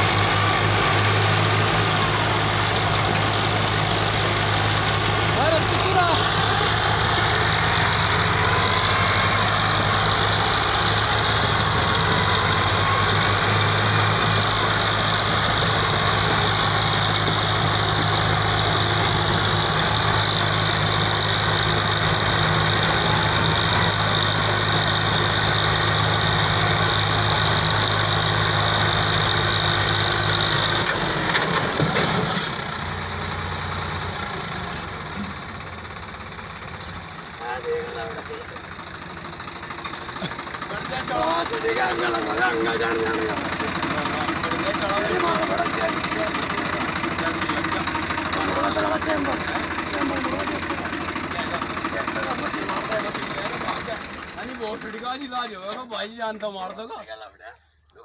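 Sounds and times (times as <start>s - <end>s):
tractor diesel engines straining: 0.0s - 58.0s.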